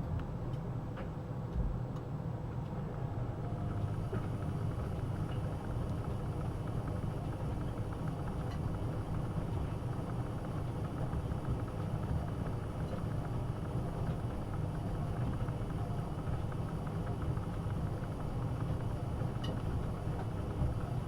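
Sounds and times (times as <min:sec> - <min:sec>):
washing machine rumbling: 0:00.0 - 0:21.0.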